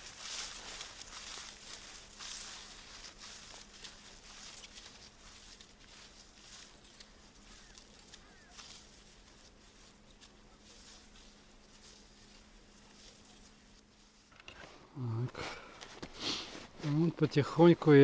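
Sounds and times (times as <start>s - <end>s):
footsteps crunching through snow: 0.0s - 18.0s.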